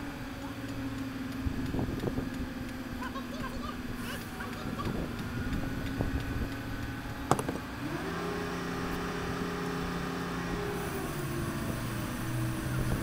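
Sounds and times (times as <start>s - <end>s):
heavy equipment engine revving: 0.0s - 13.0s.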